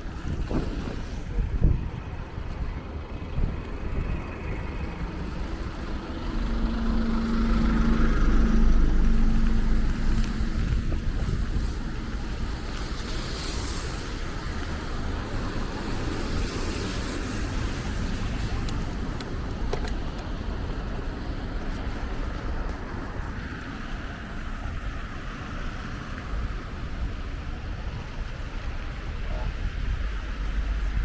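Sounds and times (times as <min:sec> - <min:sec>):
cars driving past: 0:00.0 - 0:31.0.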